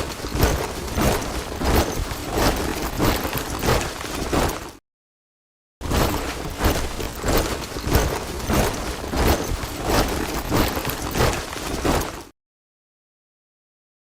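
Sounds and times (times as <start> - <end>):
boots marching in step: 0.0 - 4.8, 5.8 - 12.3.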